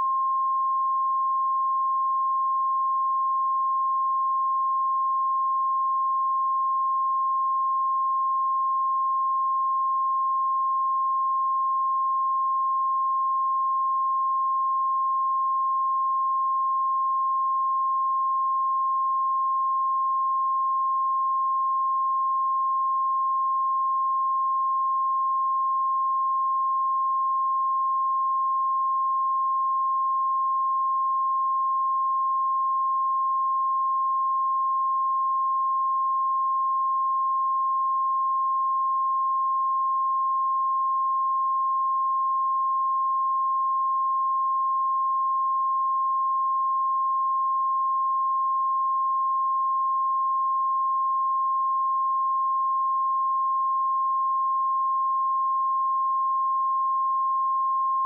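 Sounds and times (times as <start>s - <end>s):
sine-wave test tone: 0.0s - 58.0s.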